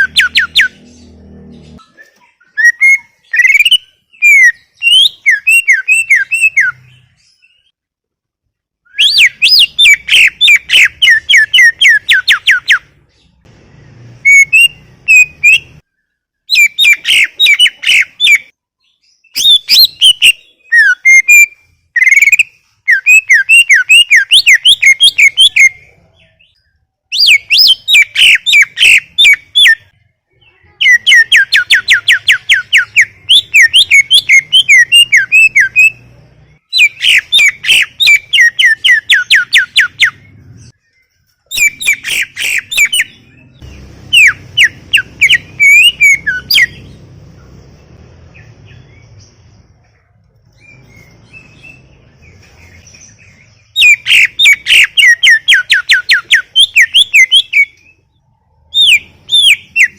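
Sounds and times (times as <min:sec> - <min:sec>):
bird singing chattering phrases: 0:00.0 - 0:07.8, 0:09.0 - 0:13.5, 0:14.2 - 0:59.9.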